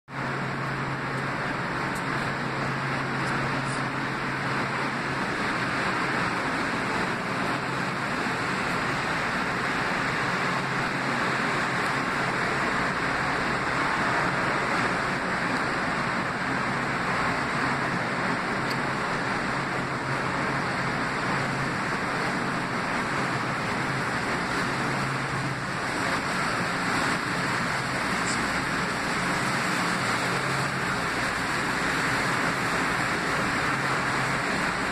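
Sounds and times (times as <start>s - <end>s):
electric train humming: 0.1s - 34.9s
rushing fan noise: 0.1s - 34.9s.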